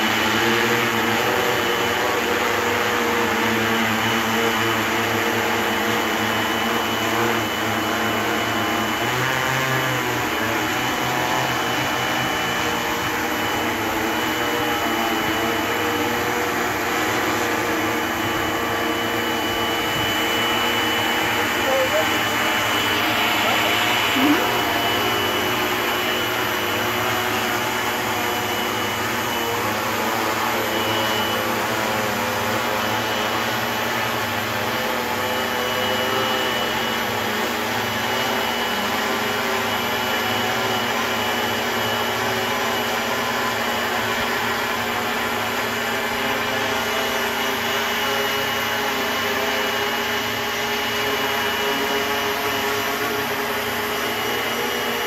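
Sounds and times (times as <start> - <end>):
drone motors whirring: 0.0 - 55.0.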